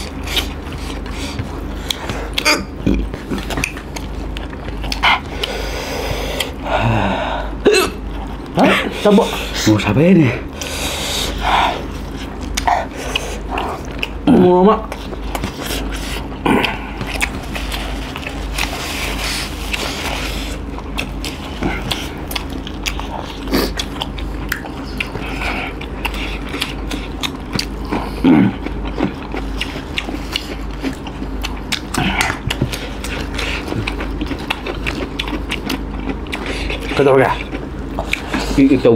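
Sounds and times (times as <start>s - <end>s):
wet chewing and biting: 0.0s - 6.6s, 8.0s - 38.9s.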